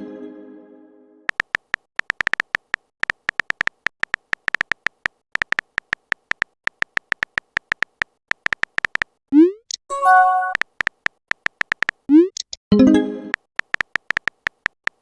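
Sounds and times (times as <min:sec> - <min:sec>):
phone keyboard typing clicks: 0:01.3 - 0:12.6, 0:13.3 - 0:15.0.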